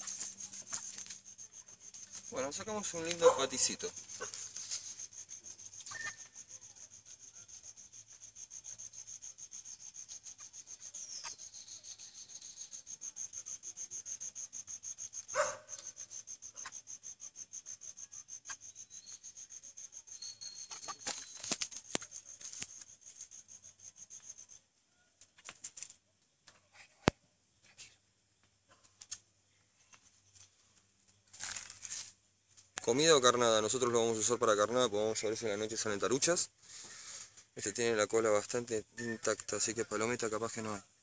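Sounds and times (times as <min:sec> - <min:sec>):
night insects chirping: 0:00.0 - 0:41.0.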